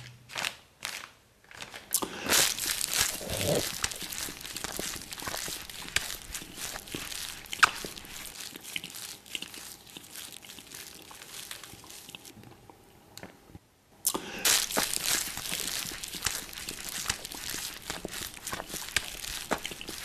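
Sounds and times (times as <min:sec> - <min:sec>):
plastic packet crinkling: 0:00.0 - 0:12.3, 0:14.4 - 0:20.0.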